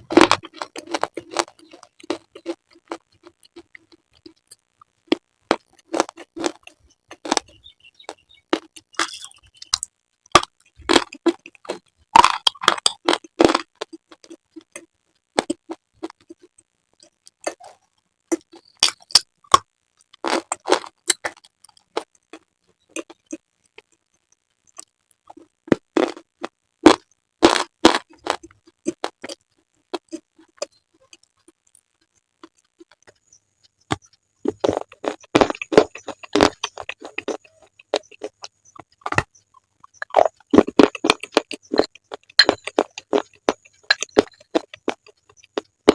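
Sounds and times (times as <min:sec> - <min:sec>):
slate being bitten and chewed: 0:00.0 - 0:23.9, 0:24.7 - 0:33.2, 0:33.9 - 0:45.9.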